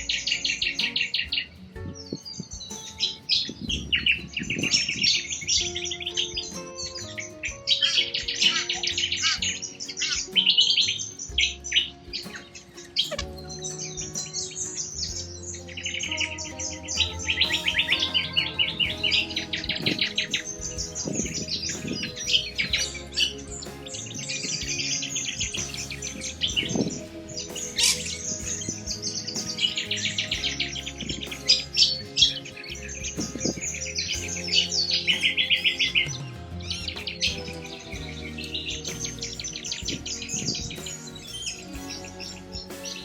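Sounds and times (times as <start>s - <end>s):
birds chirping in trills: 0.0s - 43.0s
soft background music: 0.0s - 43.0s.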